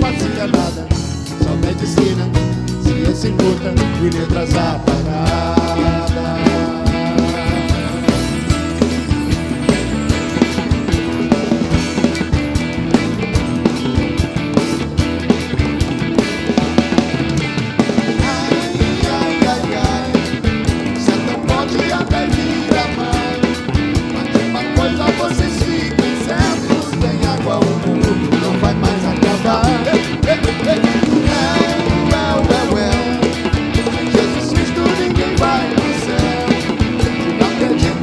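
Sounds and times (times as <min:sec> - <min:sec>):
rock band playing: 0:00.0 - 0:38.0.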